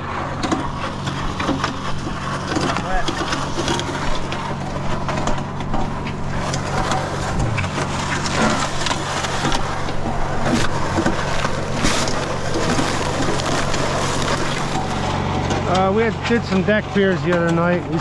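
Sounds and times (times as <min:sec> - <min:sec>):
concrete mixer engine running: 0:00.0 - 0:18.0
wet concrete scraping and clattering: 0:00.0 - 0:18.0.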